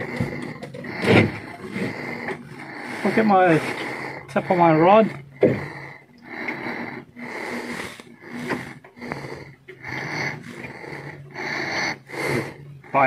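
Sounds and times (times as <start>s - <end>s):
heavy wheezing breathing: 0.0s - 13.0s.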